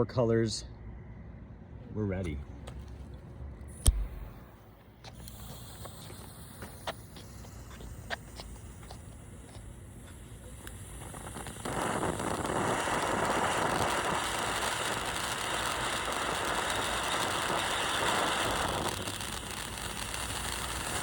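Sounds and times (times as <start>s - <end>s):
firework fountain hissing spray: 3.7s - 21.0s.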